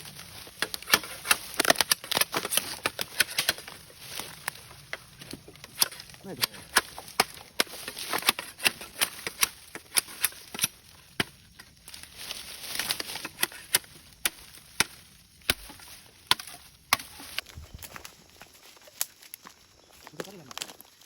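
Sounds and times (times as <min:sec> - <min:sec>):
bamboo being chopped: 0:00.0 - 0:18.1.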